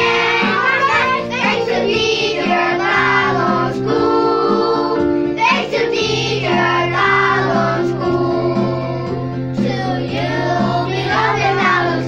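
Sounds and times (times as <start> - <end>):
children singing: 0.0 - 12.0
musical accompaniment: 0.0 - 12.0.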